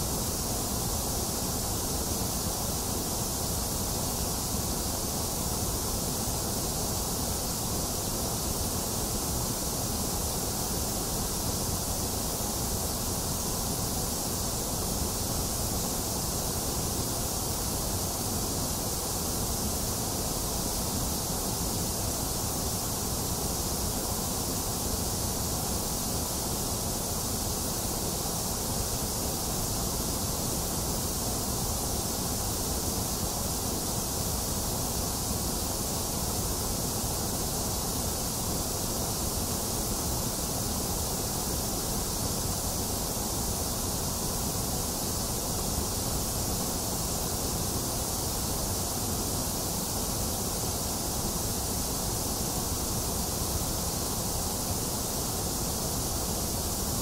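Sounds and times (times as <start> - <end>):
steady white noise: 0.0 - 57.0.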